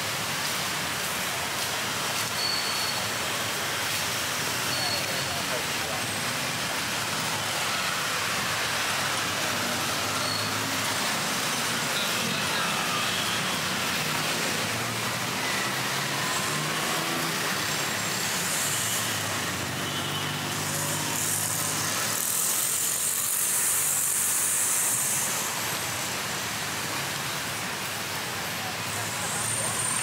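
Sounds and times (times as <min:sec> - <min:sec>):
loud high hiss: 0:00.0 - 0:30.0
vehicles passing: 0:00.0 - 0:30.0.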